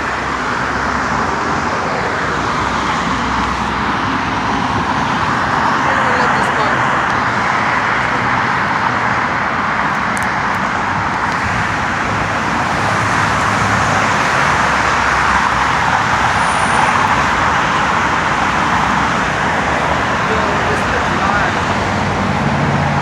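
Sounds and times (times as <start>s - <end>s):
traffic rushing hiss: 0.0s - 23.0s.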